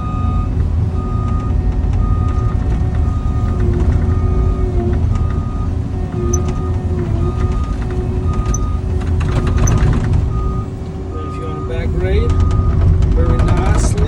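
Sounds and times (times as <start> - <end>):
travel alarm beeping: 0.0 - 8.8, 9.4 - 13.8
excavator diesel engine running: 0.0 - 14.0.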